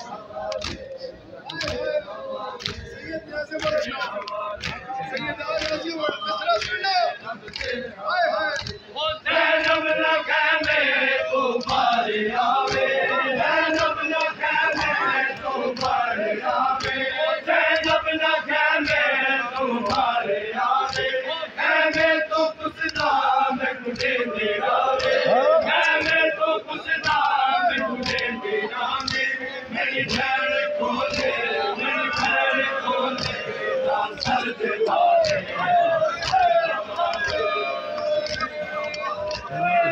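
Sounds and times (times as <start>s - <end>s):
men chanting together: 0.0s - 39.9s.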